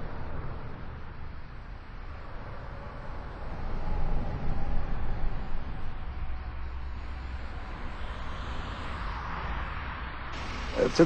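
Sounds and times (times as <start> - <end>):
low rumbling noise with hiss: 0.0 - 11.0.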